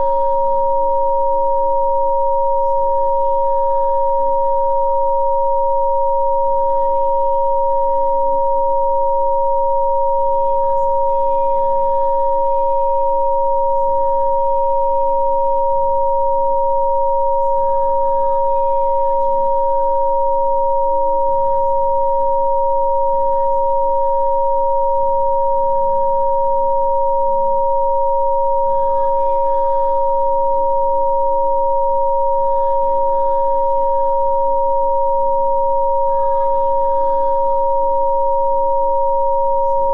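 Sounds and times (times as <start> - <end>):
steady pure sine tones: 0.0 - 39.9.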